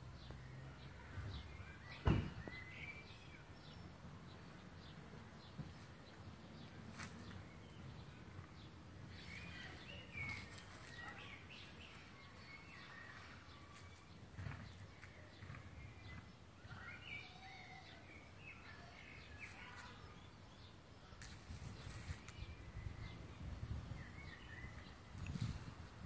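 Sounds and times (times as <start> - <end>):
bird chirping and twittering: 0.2 - 4.0, 6.6 - 20.8, 21.5 - 26.0.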